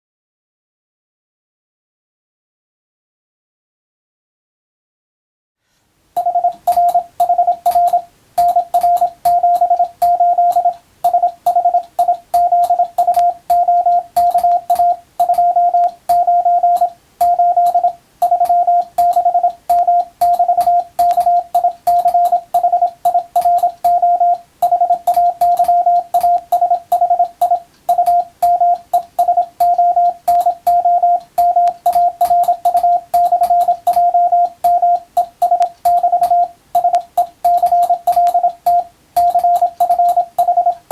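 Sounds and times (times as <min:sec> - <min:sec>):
morse code tone: 0:06.2 - 0:40.9.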